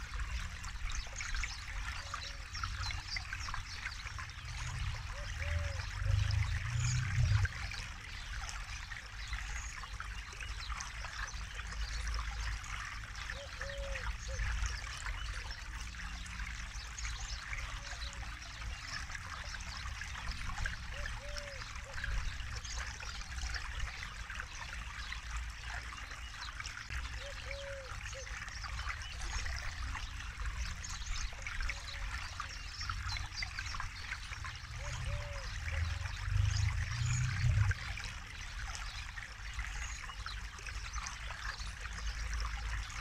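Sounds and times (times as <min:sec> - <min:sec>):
river water flowing over rocks: 0:00.0 - 0:43.0.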